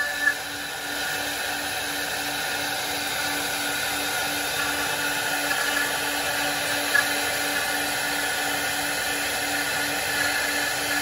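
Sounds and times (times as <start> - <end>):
cnc router cutting wood: 0.0 - 11.0.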